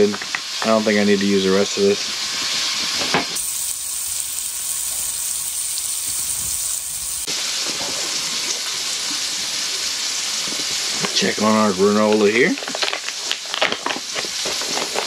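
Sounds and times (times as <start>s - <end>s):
ham sizzling in a frying pan: 0.0s - 15.0s.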